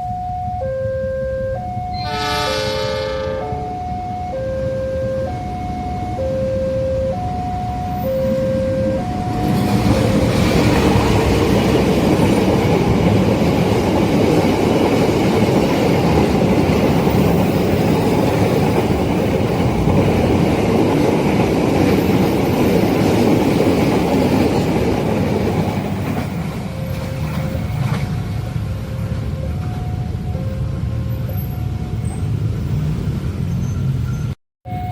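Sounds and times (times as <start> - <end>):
level-crossing warning signal: 0.0 - 33.0, 33.6 - 34.9
train passing on rails: 1.6 - 34.9.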